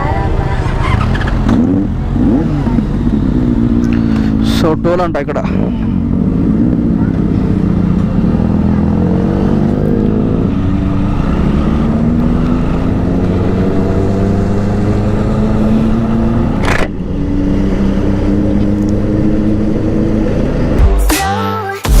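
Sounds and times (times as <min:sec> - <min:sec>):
motorcycle engine: 0:00.0 - 0:20.8.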